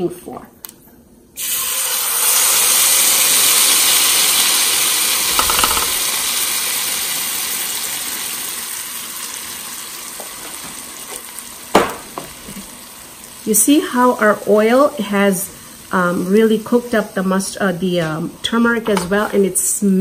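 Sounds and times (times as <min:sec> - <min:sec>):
hot oil sizzling loudly: 0:01.4 - 0:18.6.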